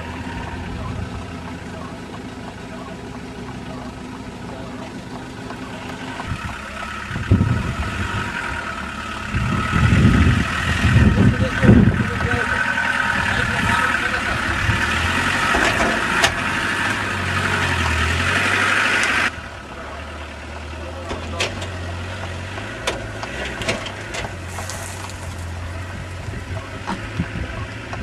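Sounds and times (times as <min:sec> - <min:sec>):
engine running at low revs: 0:00.0 - 0:28.0.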